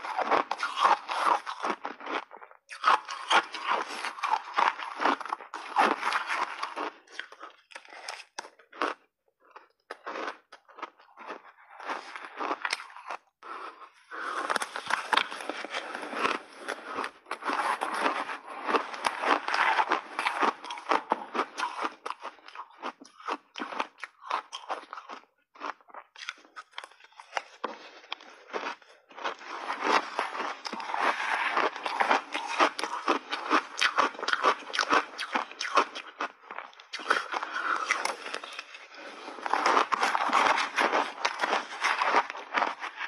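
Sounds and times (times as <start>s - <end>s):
crunching and chewing ice: 0.0s - 43.0s.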